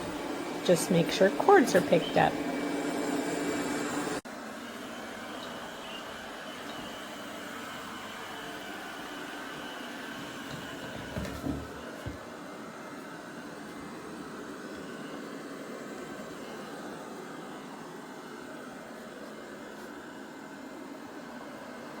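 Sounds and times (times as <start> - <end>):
robot vacuum humming: 0.0 - 21.9.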